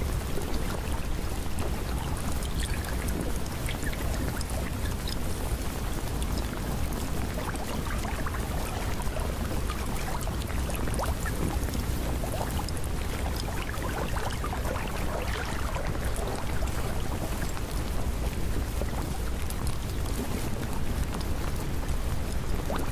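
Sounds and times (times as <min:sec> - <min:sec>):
water noise with low rumble: 0:00.0 - 0:22.9.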